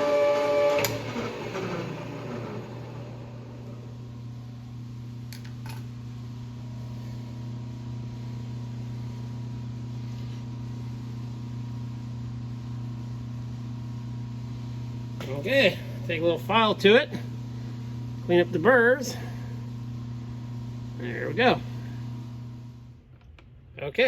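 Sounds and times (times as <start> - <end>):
metal lathe humming: 0.0 - 22.6.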